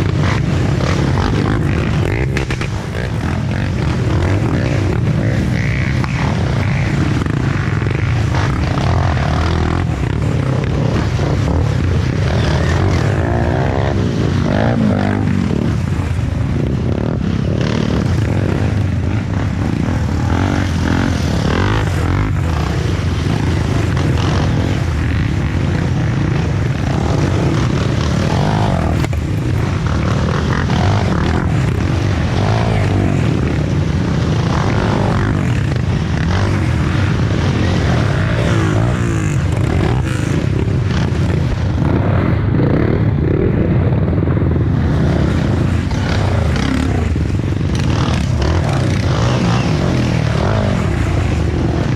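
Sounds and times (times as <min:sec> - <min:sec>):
motorcycle engines revving: 0:00.0 - 0:51.9
steady low drone: 0:00.0 - 0:51.9.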